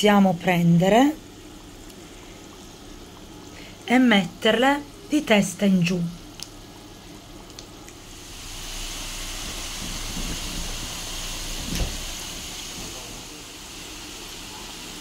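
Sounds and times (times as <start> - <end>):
dough deep-frying sizzle: 0.0 - 15.0.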